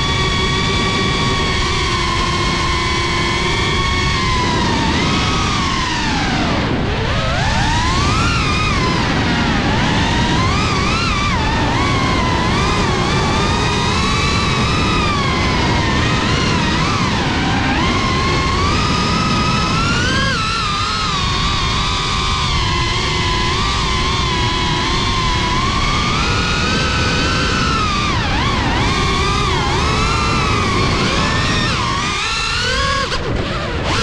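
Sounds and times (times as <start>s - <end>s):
drone propellers whining: 0.0s - 34.0s
wind noise rumble: 0.0s - 34.0s.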